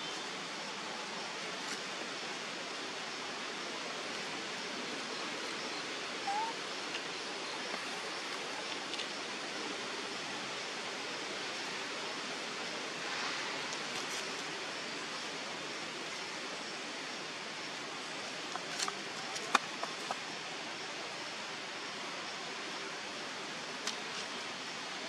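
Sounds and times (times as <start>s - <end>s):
outdoor ambience hiss: 0.0s - 25.0s.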